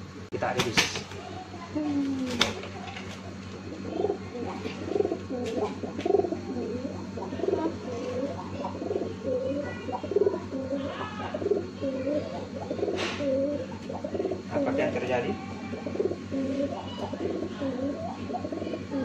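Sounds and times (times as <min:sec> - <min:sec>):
pigeons cooing: 0:01.4 - 0:19.0.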